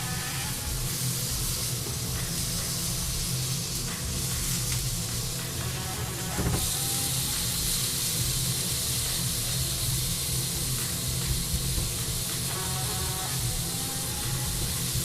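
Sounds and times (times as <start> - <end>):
meat sizzling in a frying pan: 0.0 - 15.0
steady low hum: 0.0 - 15.0.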